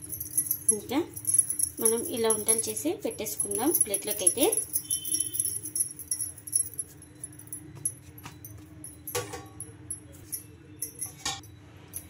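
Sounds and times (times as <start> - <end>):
light metallic clinks: 0.0 - 12.0.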